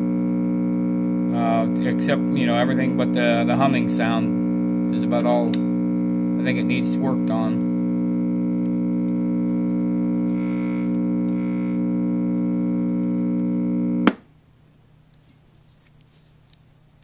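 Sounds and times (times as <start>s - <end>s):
loud electrical hum: 0.0s - 15.0s.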